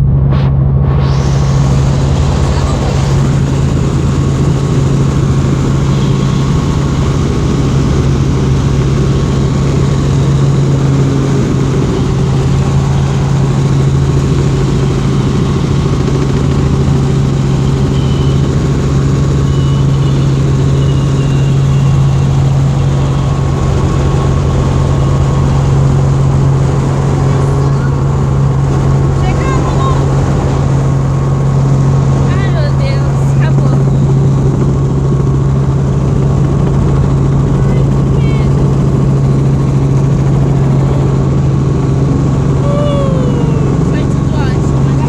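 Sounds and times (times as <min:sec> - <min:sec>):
helicopter drone: 0:00.0 - 0:45.0.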